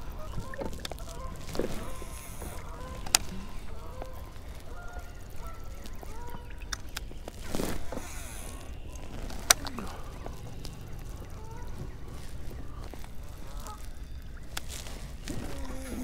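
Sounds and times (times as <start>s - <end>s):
waterfowl honking: 0.0s - 16.0s.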